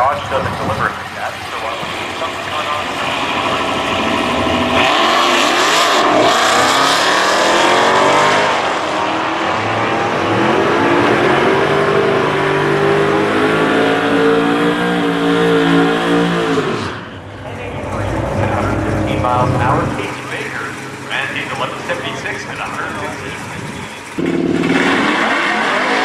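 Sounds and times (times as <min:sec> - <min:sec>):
cars accelerating hard: 0:00.5 - 0:26.0.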